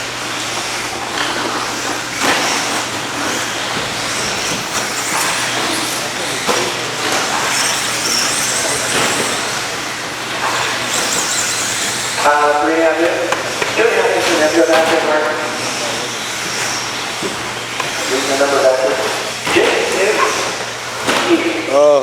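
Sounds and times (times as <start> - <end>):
radio-controlled truck motors whining: 0.0 - 22.0.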